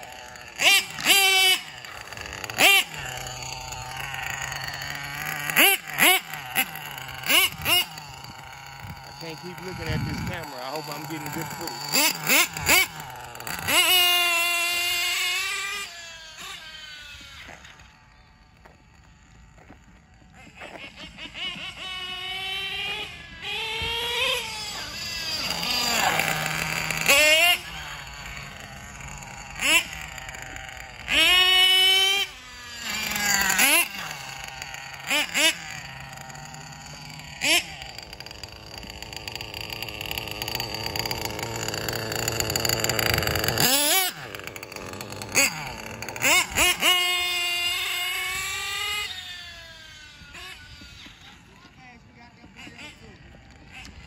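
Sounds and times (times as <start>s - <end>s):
nitro engine high revs whine: 0.0s - 54.0s.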